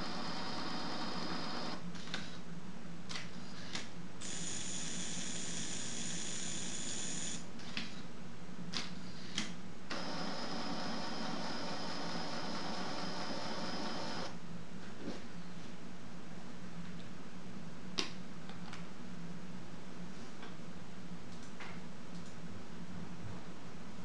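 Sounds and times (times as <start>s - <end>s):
background hum and hiss: 0.0s - 24.0s.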